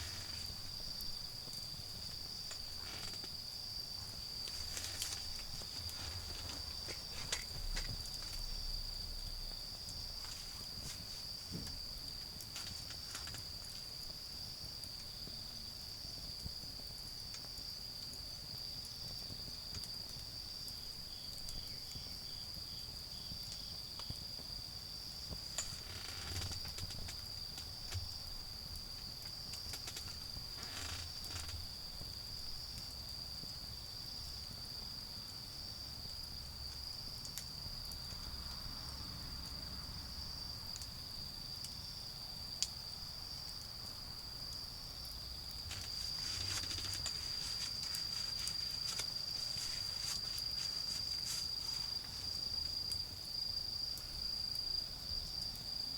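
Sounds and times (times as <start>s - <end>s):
wood fire crackling: 0.0s - 33.8s, 42.6s - 54.3s
crickets trilling: 0.0s - 55.9s.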